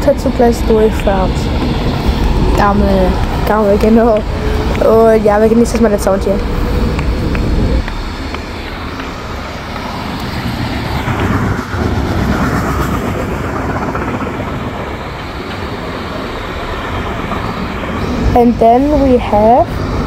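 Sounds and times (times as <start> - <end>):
freight train passing: 0.0 - 20.0.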